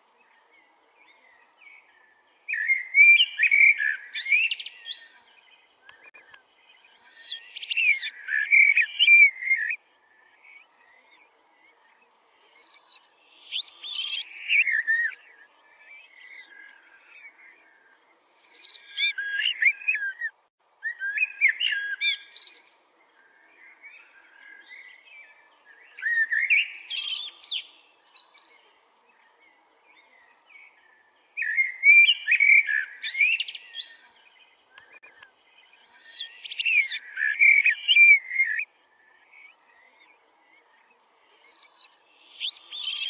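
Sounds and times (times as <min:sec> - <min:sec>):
faint bird calls: 0:00.0 - 0:43.0.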